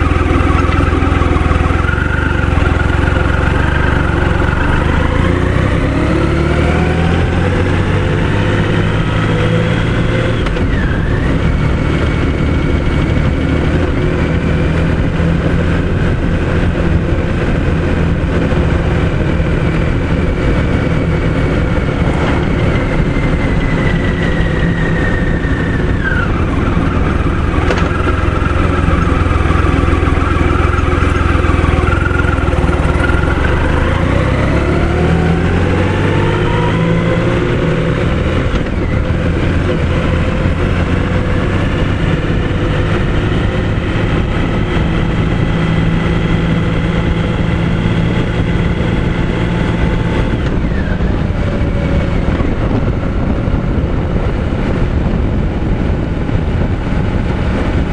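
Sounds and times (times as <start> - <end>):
road and wind rumble: 0.0 - 57.9
vehicle engine: 0.0 - 57.9.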